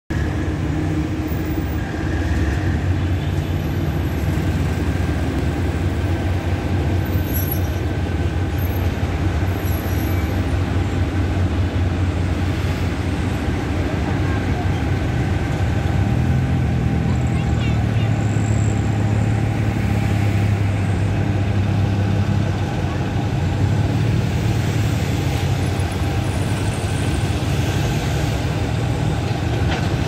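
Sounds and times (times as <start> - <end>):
diesel locomotive rumbling: 0.1 - 30.0
road traffic: 0.1 - 30.0.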